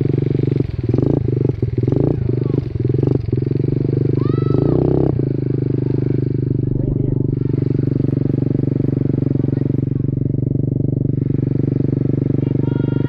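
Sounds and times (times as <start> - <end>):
minibike engine idling: 0.0 - 13.0.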